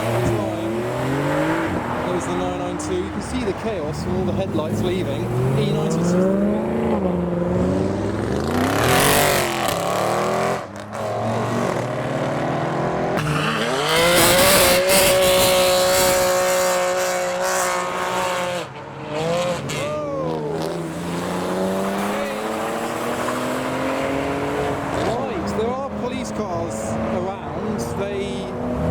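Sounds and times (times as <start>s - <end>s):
car engines revving and accelerating: 0.0s - 28.9s.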